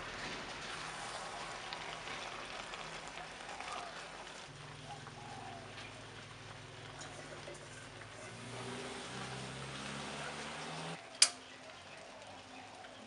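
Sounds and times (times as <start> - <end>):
curry sizzling in a pan: 0.0 - 13.0.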